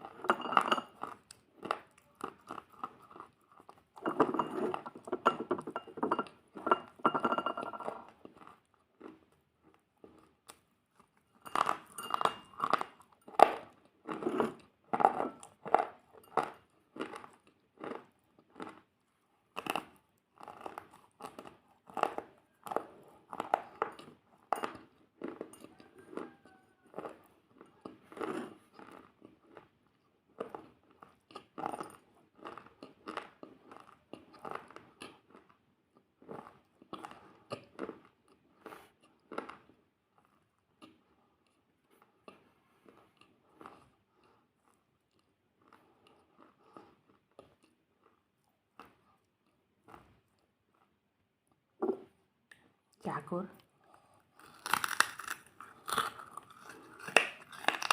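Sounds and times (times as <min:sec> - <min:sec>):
chewing crunchy food: 0:00.0 - 0:07.0, 0:07.8 - 0:51.6, 0:53.6 - 0:57.9.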